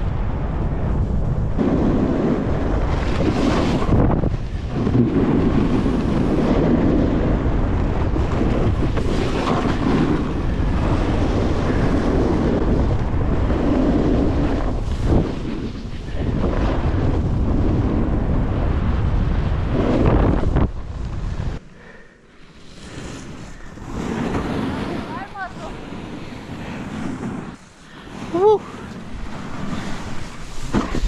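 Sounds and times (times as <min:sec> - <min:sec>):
snowboard sliding through snow: 0:00.0 - 0:31.0
wind rushing over microphone: 0:00.0 - 0:31.0.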